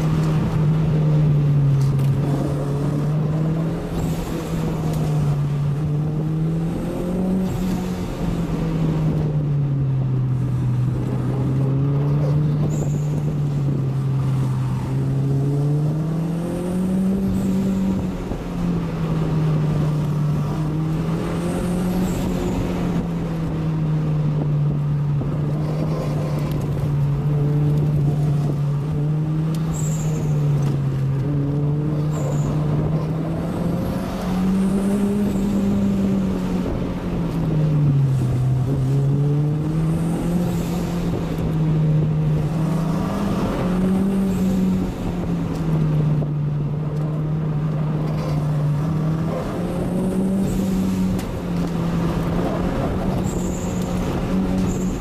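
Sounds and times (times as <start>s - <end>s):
car engine droning: 0.0s - 55.0s
road and tyre noise: 0.0s - 55.0s.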